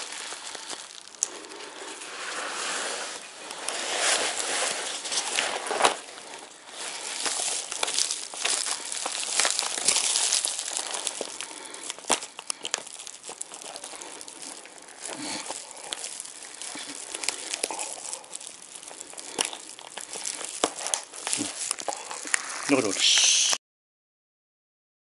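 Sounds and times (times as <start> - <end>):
foil bubble wrap crinkling: 0.0 - 23.6.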